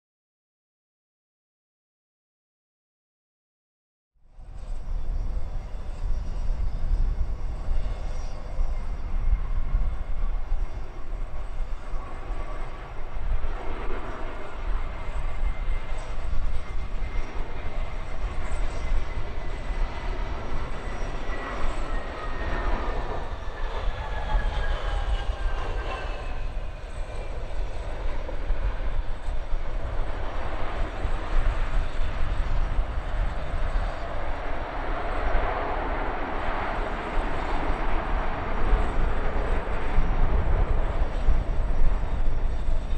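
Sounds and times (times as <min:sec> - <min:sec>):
jet airliner engine whine: 0:04.2 - 0:42.9.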